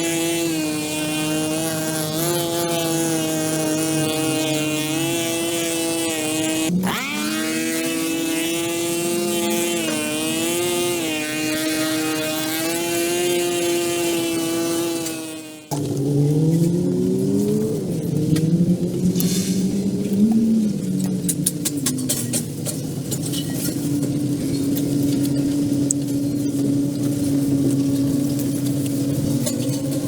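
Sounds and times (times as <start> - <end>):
motor whining: 0.0 - 30.0.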